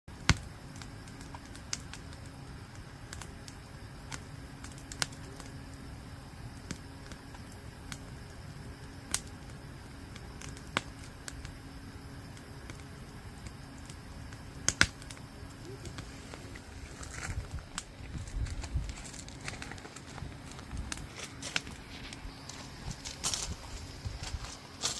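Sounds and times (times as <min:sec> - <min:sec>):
sharp pops of burning wood: 0:00.1 - 0:23.5
campfire crackling: 0:00.1 - 0:24.9
steady low hum: 0:00.1 - 0:24.9.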